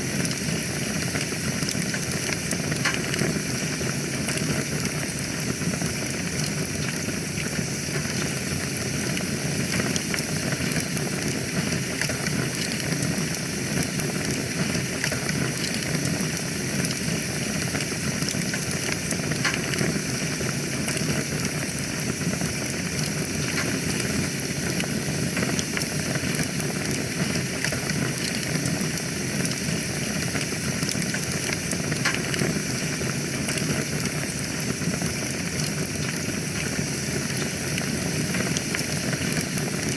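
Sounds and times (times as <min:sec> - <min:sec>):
fire crackles and pops: 0:00.0 - 0:39.9
hiss of flames: 0:00.0 - 0:39.9.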